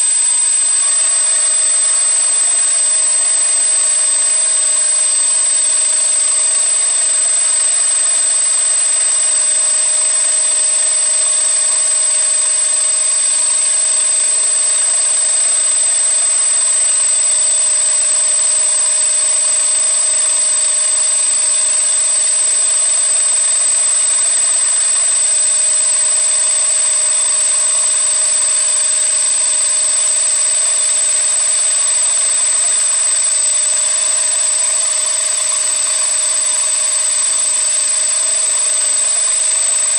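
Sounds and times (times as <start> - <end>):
machine whining while machining: 0.0 - 39.9.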